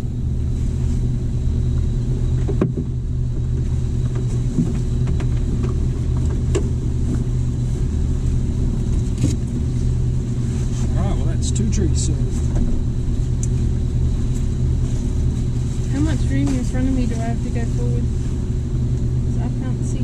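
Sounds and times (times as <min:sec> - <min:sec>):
car engine running at low revs: 0:00.0 - 0:20.0.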